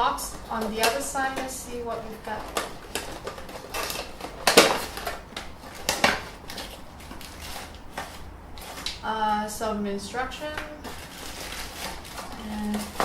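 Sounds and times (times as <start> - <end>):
plastic and paper crinkling: 0.0 - 9.0, 10.1 - 13.0.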